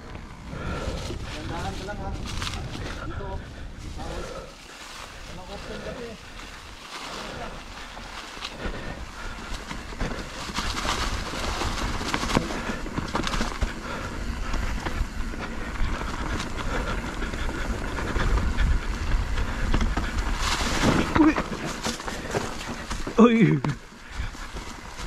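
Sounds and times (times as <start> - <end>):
wind rumbling on microphone: 0.0 - 23.2
bike knocking and rattling: 0.0 - 25.0
bike tyres on dirt: 0.0 - 25.0.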